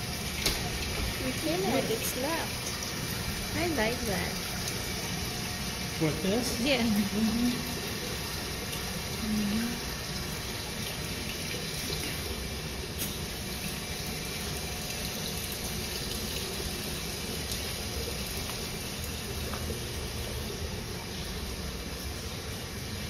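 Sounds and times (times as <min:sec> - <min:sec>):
fountain water splashing: 0:00.0 - 0:22.6.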